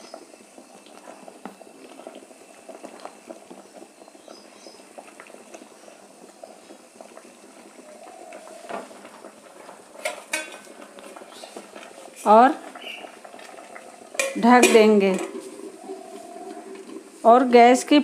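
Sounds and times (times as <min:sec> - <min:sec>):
water boiling in a pot: 0:00.0 - 0:18.0.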